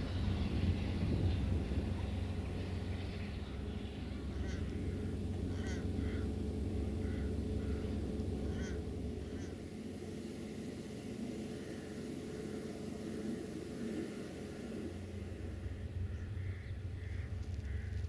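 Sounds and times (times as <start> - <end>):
birds calling: 0.0 - 18.0
low steady rumble: 0.0 - 18.0.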